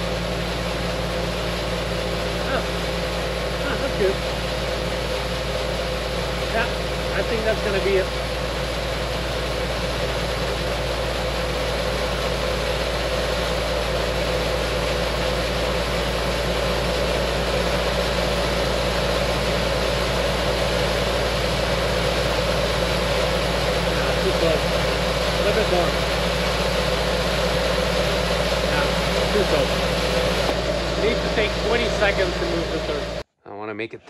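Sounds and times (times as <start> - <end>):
vibrating motor humming: 0.0 - 33.2.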